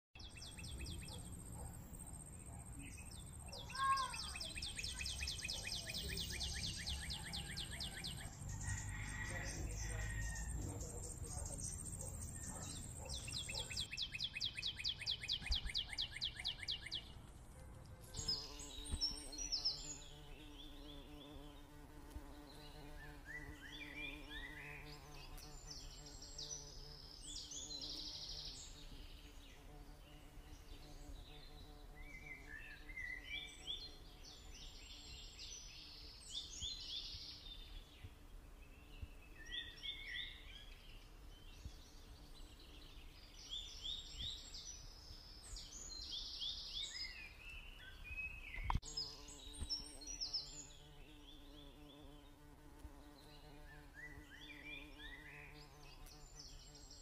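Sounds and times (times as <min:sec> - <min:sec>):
bird chirping: 0:00.2 - 0:57.0.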